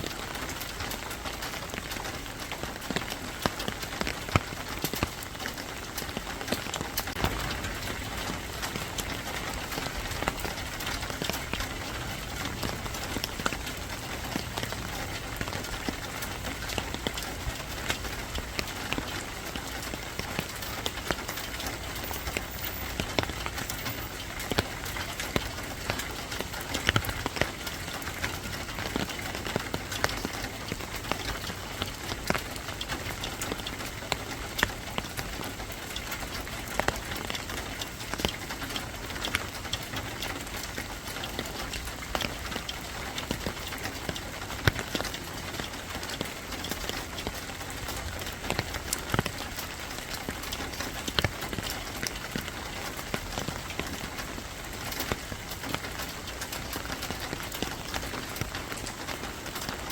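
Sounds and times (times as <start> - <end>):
rain drops on hard surface: 0.0 - 59.9.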